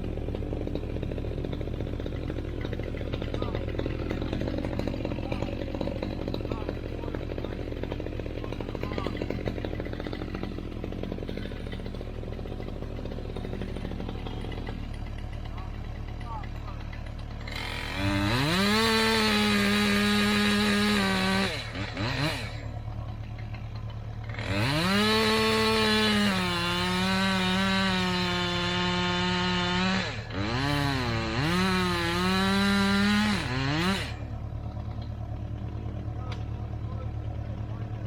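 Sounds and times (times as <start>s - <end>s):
chainsaw idling: 0.0s - 38.0s
chainsaw revving: 0.0s - 38.0s.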